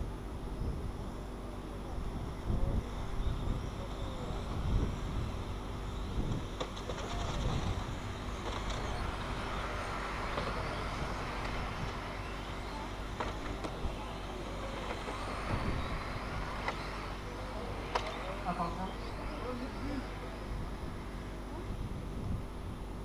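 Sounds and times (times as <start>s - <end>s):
electric motor whine: 0.0s - 23.0s.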